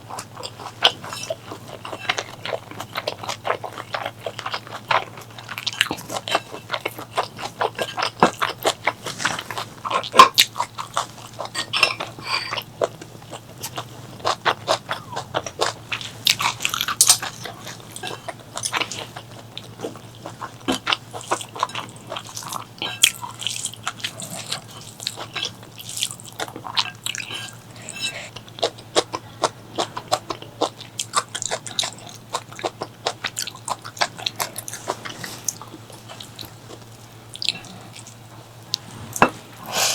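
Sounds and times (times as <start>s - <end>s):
chewing and eating: 0.0s - 39.9s.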